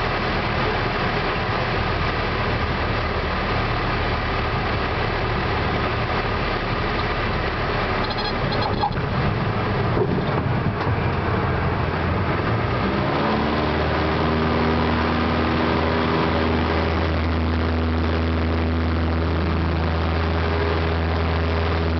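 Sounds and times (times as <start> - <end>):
aircraft engine and propeller: 0.0 - 21.9.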